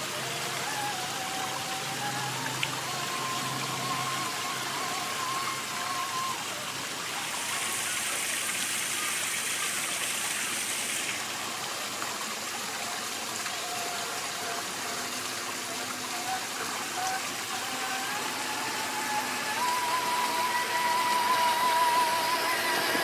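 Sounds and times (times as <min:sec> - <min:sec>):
faint electric motor whine: 0:00.0 - 0:23.0
stream rushing: 0:00.0 - 0:23.0.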